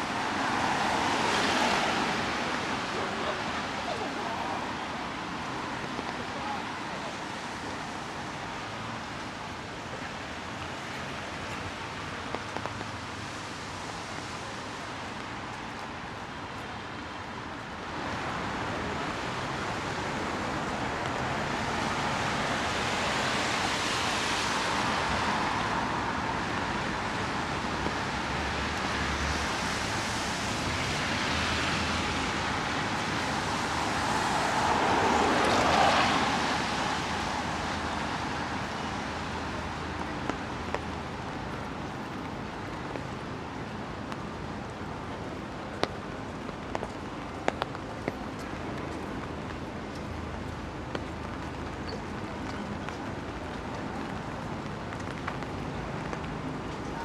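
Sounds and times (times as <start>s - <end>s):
rain hissing on wet street: 0.0s - 57.0s.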